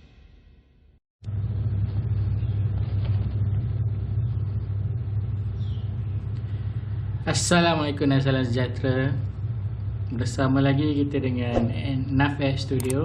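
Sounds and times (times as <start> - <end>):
low background rumble: 1.3 - 13.0.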